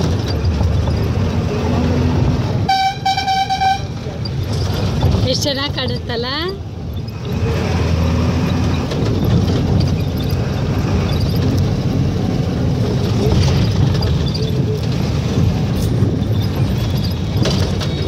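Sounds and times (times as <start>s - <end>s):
vehicle road noise rumble: 0.0s - 18.0s.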